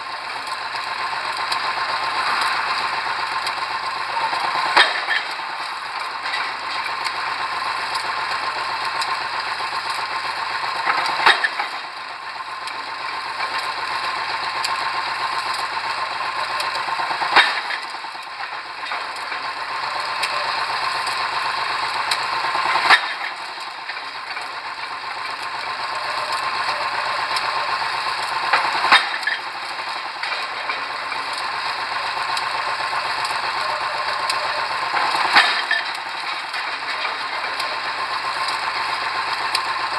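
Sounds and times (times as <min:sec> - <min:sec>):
rig engine running: 0:00.0 - 0:39.9.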